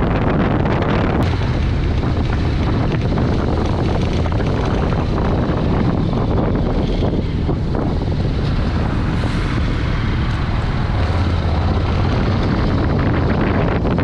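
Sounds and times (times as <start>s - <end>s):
deep steady hum: 0.0s - 14.0s
motorcycle engine rumble: 0.0s - 14.0s
wind noise on microphone: 0.0s - 14.0s.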